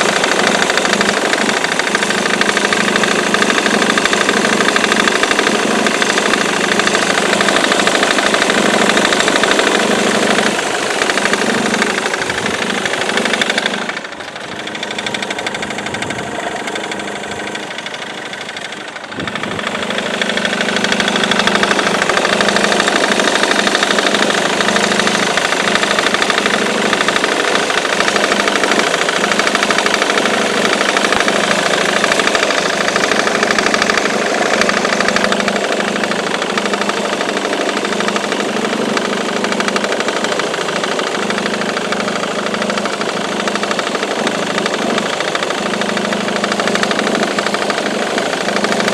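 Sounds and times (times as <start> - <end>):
diesel engine knocking clatter: 0.0 - 48.9.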